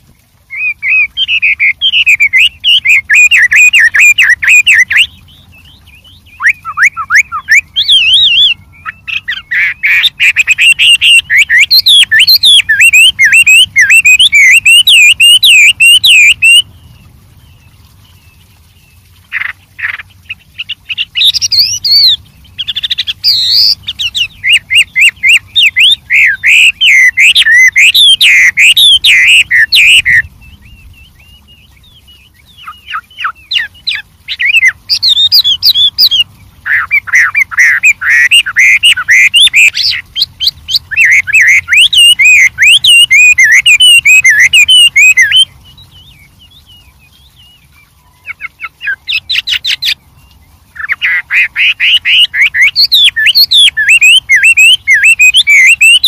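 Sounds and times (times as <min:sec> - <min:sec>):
songbird singing warbled phrases: 0:00.0 - 0:56.0.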